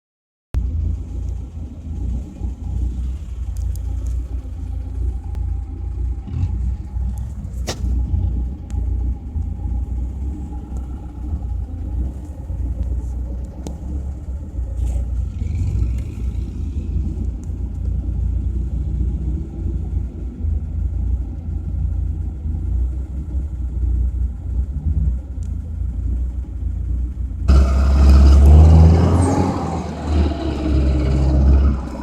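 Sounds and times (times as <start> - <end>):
vehicle driving off-road: 0.6 - 32.0.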